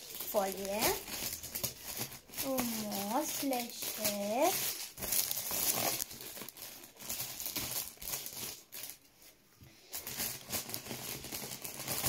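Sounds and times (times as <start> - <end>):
scissors snipping plastic foil: 0.0 - 9.0, 10.0 - 12.0
foil crinkling and rustling: 0.0 - 12.0.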